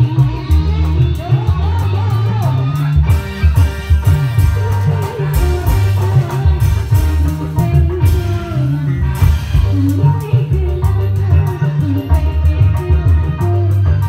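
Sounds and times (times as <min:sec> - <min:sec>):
loud music with bass line: 0:00.0 - 0:14.0.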